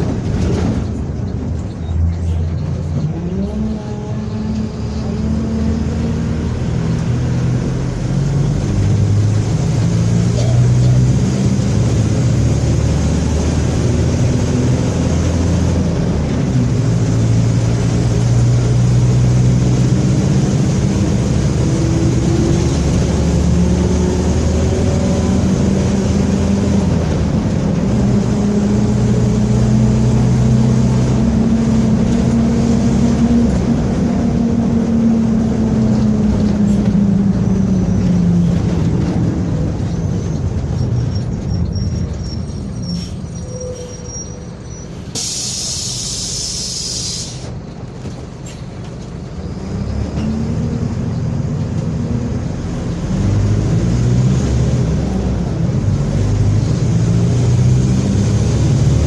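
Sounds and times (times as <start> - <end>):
bus diesel engine shifting gears: 0.0 - 59.0.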